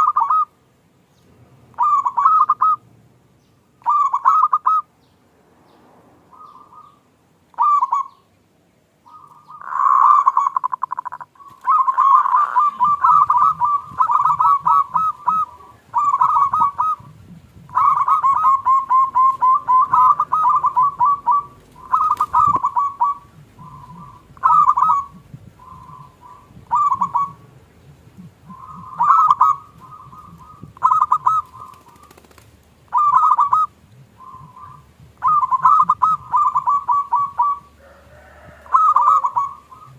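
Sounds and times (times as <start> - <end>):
doves cooing: 0.0 - 0.6, 1.7 - 2.8, 3.8 - 4.9, 6.3 - 8.3, 9.0 - 39.9.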